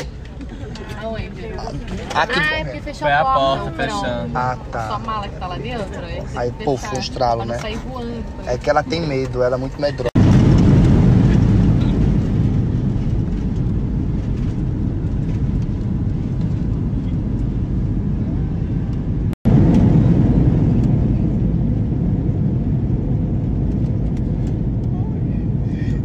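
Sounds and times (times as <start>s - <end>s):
airliner cabin noise: 0.0s - 26.0s.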